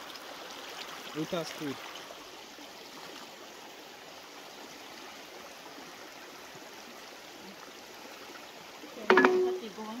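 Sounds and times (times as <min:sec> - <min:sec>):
spring water running: 0:00.0 - 0:10.0.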